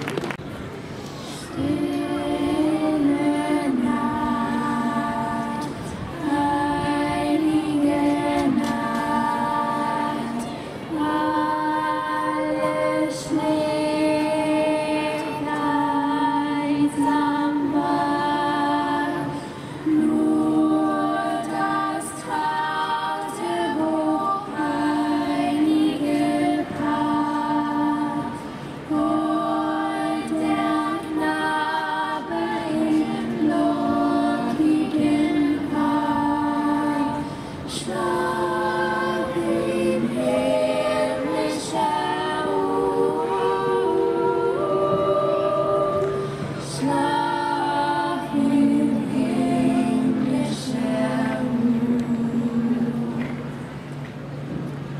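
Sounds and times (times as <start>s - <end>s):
choir singing a cappella: 1.2s - 53.8s.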